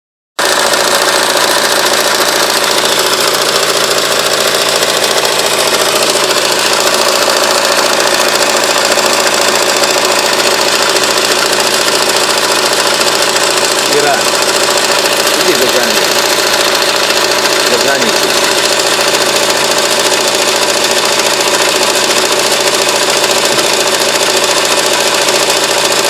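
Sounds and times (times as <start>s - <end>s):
diesel engine knocking: 0.4s - 26.0s.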